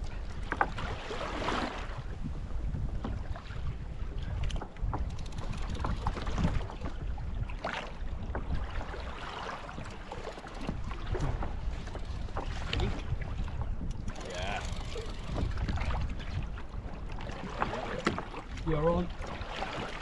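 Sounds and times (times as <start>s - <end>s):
water splashing against kayak hull: 0.0s - 20.0s
wind rumbling on microphone: 0.0s - 20.0s.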